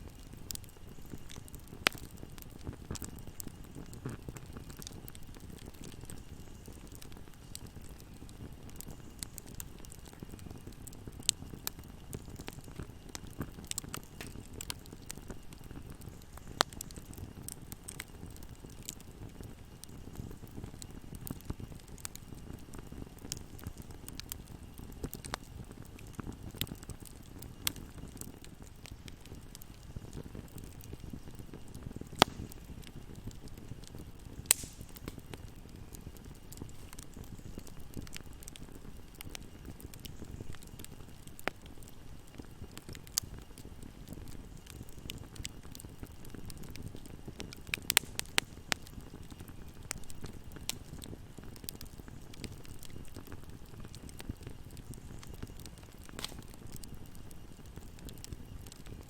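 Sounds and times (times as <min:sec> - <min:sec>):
fire crackling and popping: 0:00.0 - 0:59.0
fire flames rumbling: 0:00.0 - 0:59.0.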